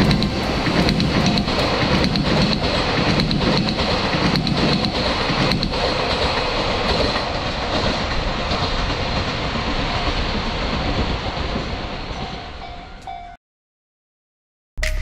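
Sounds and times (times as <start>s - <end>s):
train rumbling on rails: 0.0s - 13.4s.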